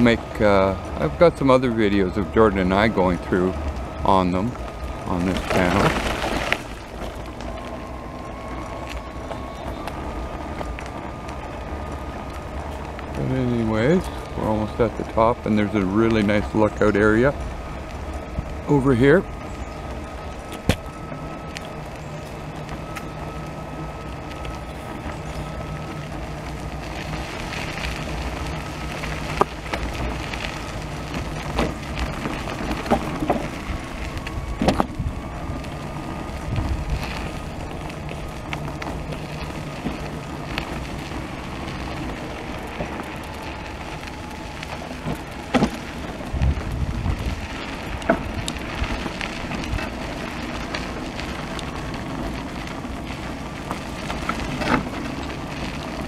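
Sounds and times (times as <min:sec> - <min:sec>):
tyres rolling: 0:00.0 - 0:56.0
wheelchair motor hum: 0:00.0 - 0:56.0.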